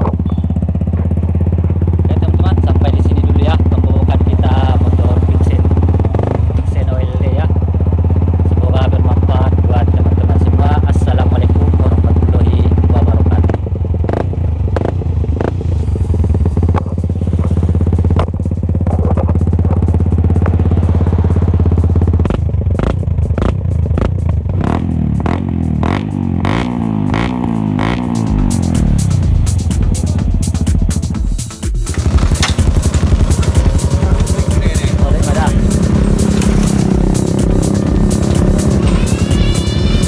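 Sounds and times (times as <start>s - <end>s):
motorcycle exhaust beat: 0.0s - 40.0s.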